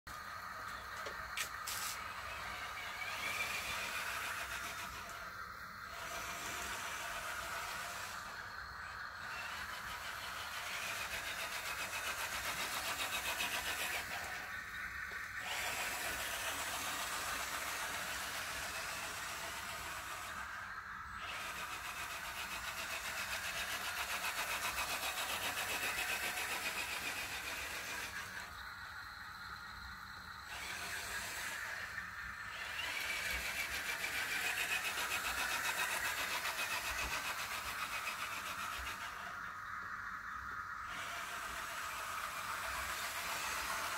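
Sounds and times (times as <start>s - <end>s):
toy truck motor whining: 0.1s - 43.9s.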